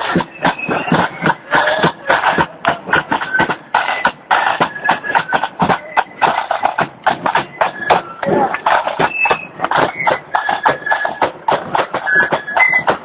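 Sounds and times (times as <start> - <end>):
drum beats: 0.0 - 13.0
marching band playing: 0.0 - 13.0.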